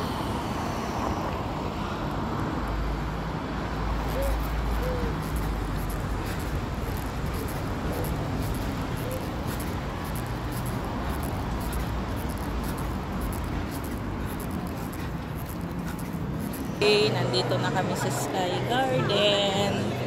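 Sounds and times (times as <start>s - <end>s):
low traffic rumble: 0.0s - 20.0s
street hiss: 0.0s - 20.0s.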